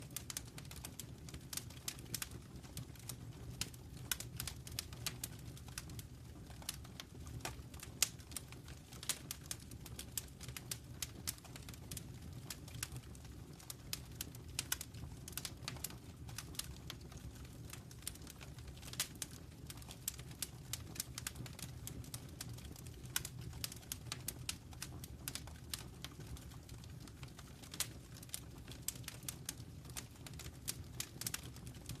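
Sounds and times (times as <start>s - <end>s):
low fire rumble: 0.0s - 32.0s
wood fire crackling: 0.0s - 32.0s.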